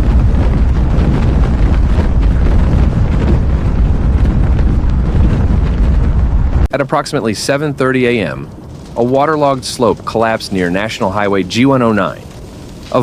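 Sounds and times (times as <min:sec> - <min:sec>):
low rumbling noise: 0:00.0 - 0:13.0
wind buffeting microphone: 0:00.0 - 0:13.0.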